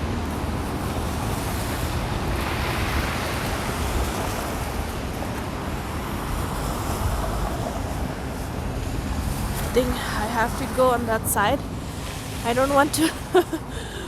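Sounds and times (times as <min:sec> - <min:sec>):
wind rumbling on microphone: 0:00.0 - 0:13.8
vehicle passing: 0:00.1 - 0:13.8.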